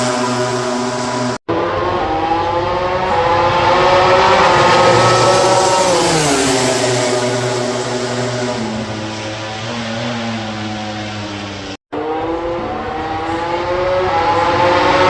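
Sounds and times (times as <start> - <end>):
racing motorcycle passing by: 0.0 - 15.0.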